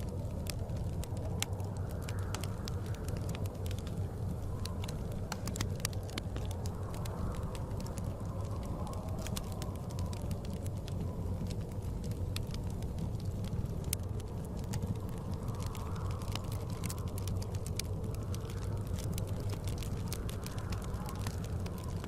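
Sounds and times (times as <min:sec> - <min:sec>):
blizzard wind rushing: 0:00.0 - 0:22.0
wood fire crackling and popping: 0:00.0 - 0:22.0.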